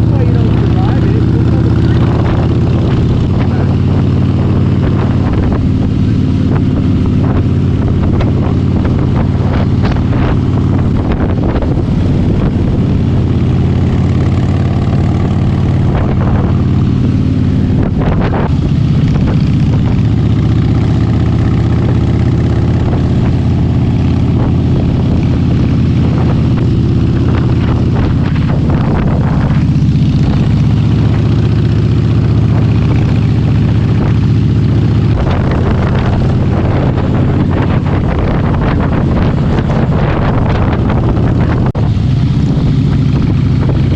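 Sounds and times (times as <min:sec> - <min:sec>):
motorcycle engine running: 0:00.0 - 0:43.9
wind noise on microphone: 0:00.0 - 0:43.9.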